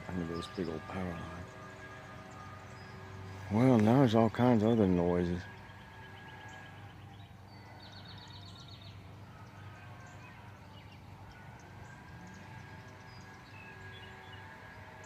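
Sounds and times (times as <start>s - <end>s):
low hum of distant noise: 0.0s - 15.0s
rapid bird trill: 0.0s - 15.0s.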